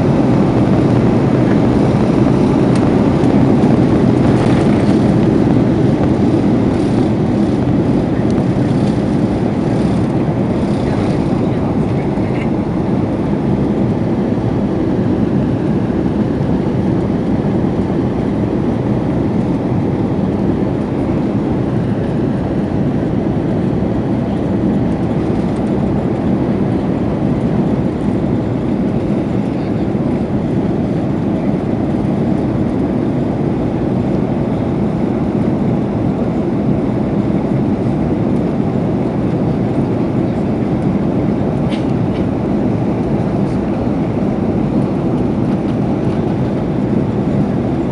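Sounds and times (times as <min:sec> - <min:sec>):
jet engine drone in cabin: 0:00.0 - 0:47.9.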